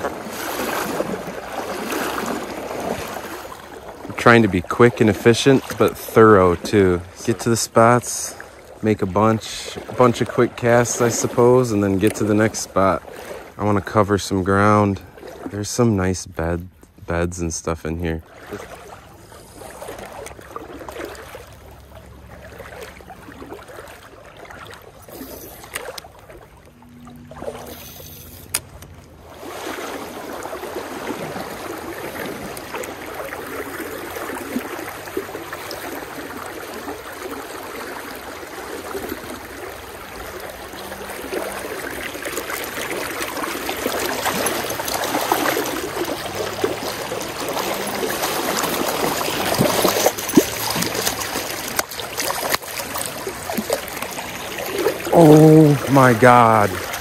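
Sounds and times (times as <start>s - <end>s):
stream running over riffles: 0.0s - 57.0s.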